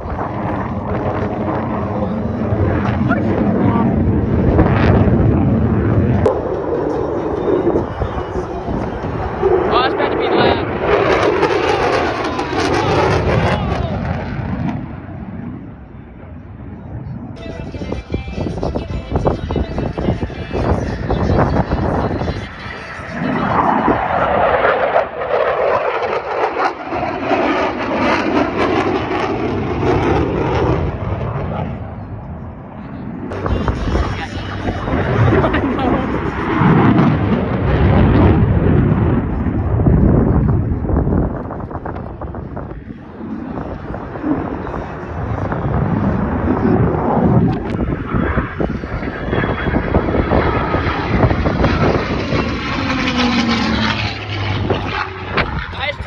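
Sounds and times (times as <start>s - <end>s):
aircraft engine in flight: 0.0s - 56.0s
airplane flying past: 0.0s - 56.0s.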